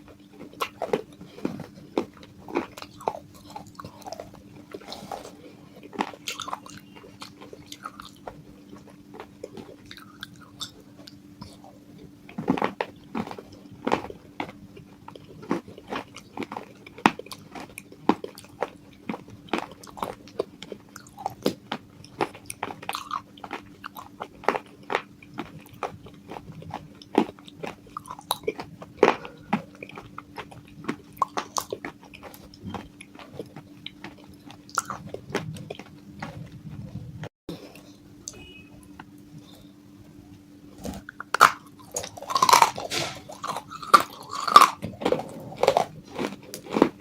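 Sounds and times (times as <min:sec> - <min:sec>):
clay pieces crunching in mouth: 0:00.0 - 0:37.9, 0:40.8 - 0:47.0
steady low hum: 0:00.0 - 0:47.0.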